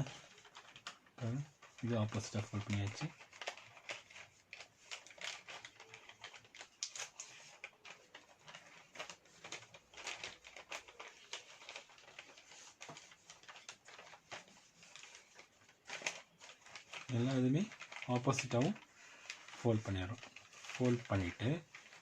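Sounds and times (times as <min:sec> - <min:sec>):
paper crackling and tapping: 0:00.0 - 0:22.0.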